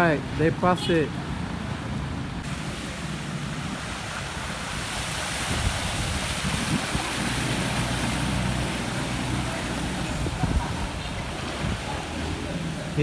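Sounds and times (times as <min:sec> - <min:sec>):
floodwater rushing: 0:00.0 - 0:13.0
wind buffeting microphone: 0:01.2 - 0:13.0.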